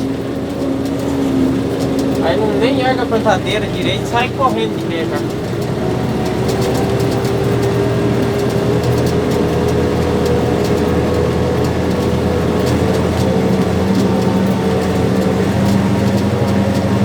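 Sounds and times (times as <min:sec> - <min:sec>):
tractor engine running under load: 0:00.0 - 0:17.0.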